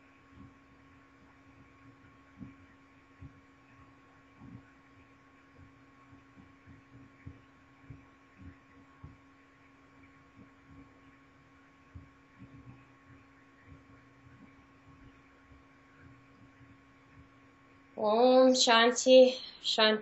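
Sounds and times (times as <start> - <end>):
faint electrical hum: 0.0 - 20.0
soft low thumps: 0.3 - 17.8.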